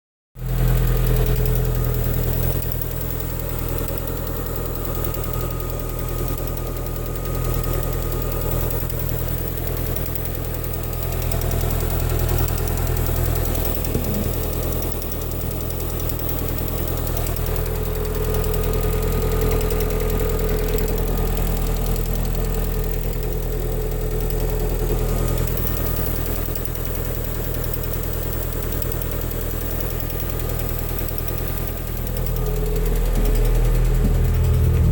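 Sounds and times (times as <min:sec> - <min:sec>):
car engine idling: 0:00.4 - 0:34.9
engine knocking: 0:00.4 - 0:34.9.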